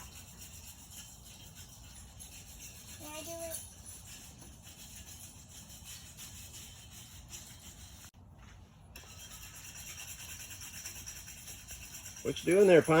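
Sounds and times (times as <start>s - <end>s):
scrubbing on metal welds: 0.0s - 8.1s, 8.9s - 13.0s.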